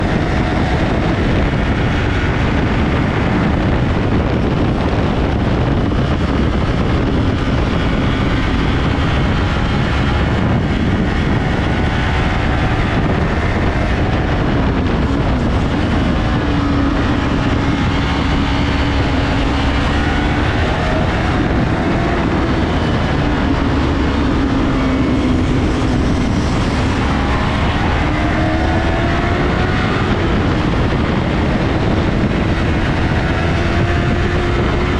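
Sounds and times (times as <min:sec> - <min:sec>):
motorcycle engine at speed: 0:00.0 - 0:34.9
wind rush on microphone: 0:00.0 - 0:34.9.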